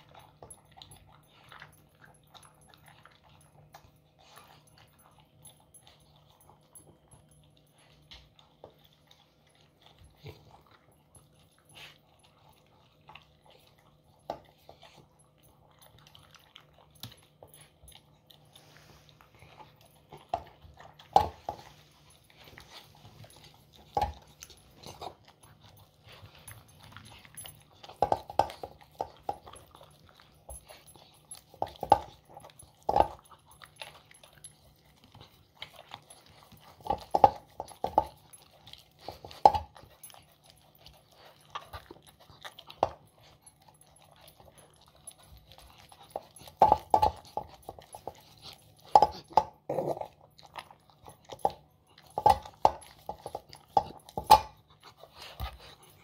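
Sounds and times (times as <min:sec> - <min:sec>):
dog licking a metal bowl: 0:00.0 - 0:56.0.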